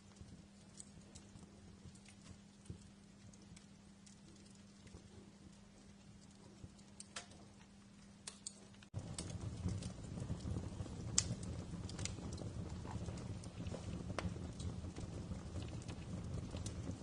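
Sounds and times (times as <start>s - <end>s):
low rumble of burning: 0.0s - 17.0s
wood fire crackling and popping: 0.0s - 17.0s.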